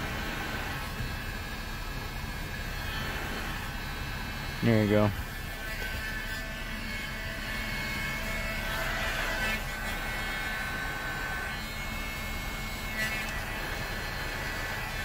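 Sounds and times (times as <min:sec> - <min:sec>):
heat gun fan humming: 0:00.0 - 0:15.0.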